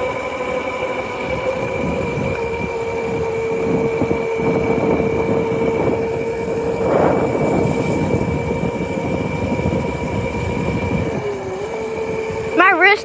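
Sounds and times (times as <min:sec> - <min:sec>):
motorcycle engine whine: 0:00.0 - 0:13.0
wind and road noise: 0:00.0 - 0:13.0.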